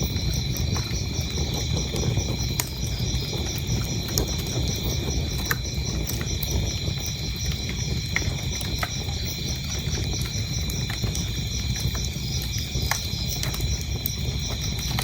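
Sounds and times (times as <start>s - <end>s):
crickets chirping: 0.0s - 15.0s
wood fire crackling: 0.0s - 15.0s.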